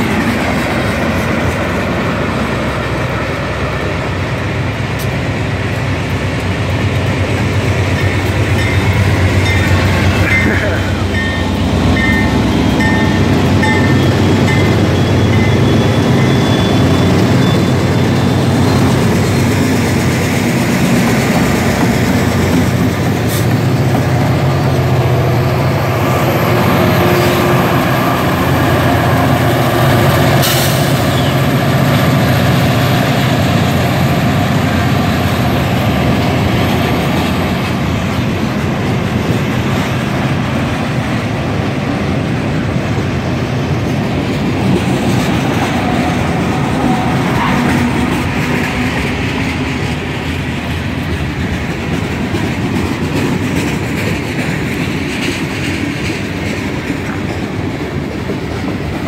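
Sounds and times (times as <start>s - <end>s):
diesel locomotive engines humming: 0.0s - 59.0s
freight cars rumbling on rails: 0.0s - 59.0s
train wheels clicking on track: 0.0s - 59.0s.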